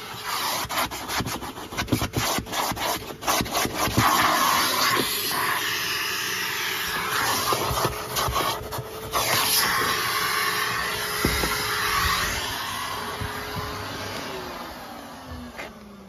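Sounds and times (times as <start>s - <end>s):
vacuum cleaner running: 0.0s - 0.6s, 3.2s - 16.0s.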